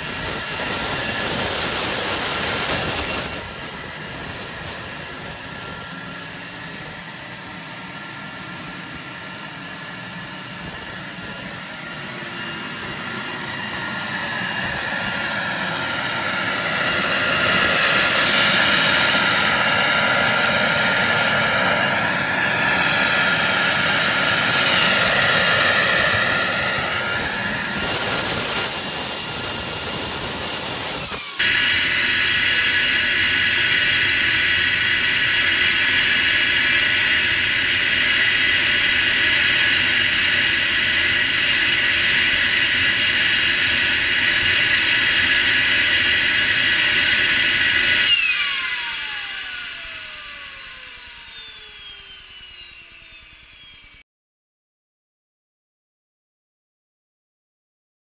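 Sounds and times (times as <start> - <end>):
gas turbine running: 0.0 - 53.8
turbine spooling down: 0.0 - 54.0.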